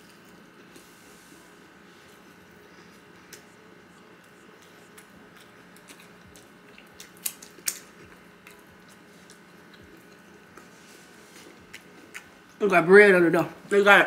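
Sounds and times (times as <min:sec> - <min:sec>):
chewing crispy food: 0:00.0 - 0:12.6.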